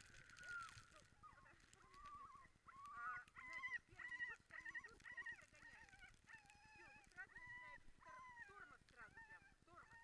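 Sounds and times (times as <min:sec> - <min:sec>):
sled dogs yelping and whining: 0:00.0 - 0:10.0.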